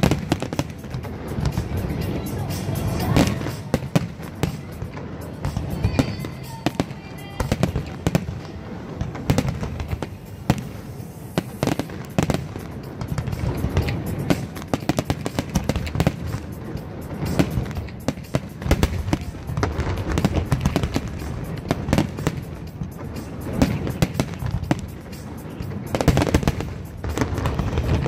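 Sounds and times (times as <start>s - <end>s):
firework crackles: 0.0s - 28.0s.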